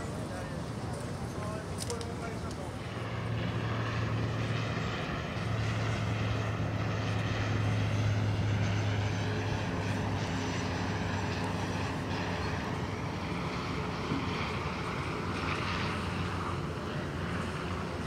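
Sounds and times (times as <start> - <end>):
turboprop propeller drone: 0.0 - 18.0.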